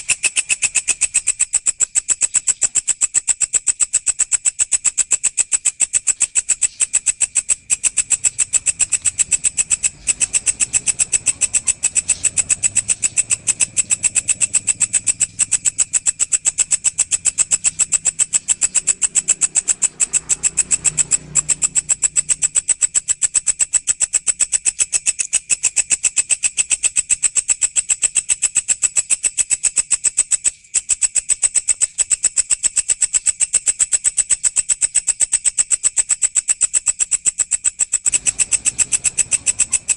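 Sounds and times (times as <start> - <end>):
katydid stridulating: 0.0 - 39.9.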